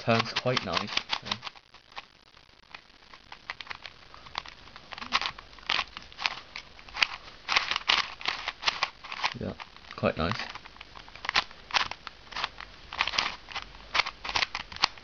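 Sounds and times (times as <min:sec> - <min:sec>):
plastic puzzle cube twisting clicks: 0:00.1 - 0:02.0, 0:03.4 - 0:09.6, 0:10.4 - 0:15.0.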